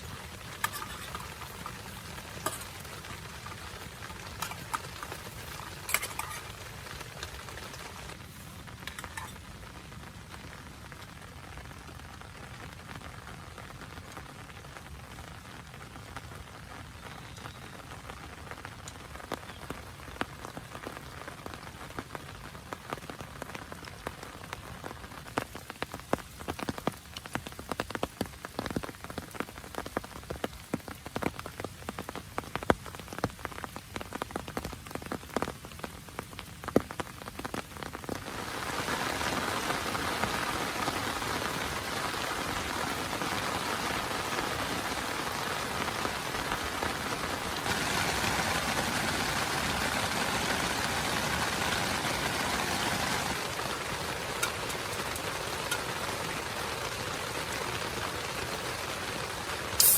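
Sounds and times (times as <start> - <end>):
downpour hiss: 0.0 - 59.9
raindrops tapping on a surface: 0.0 - 59.9.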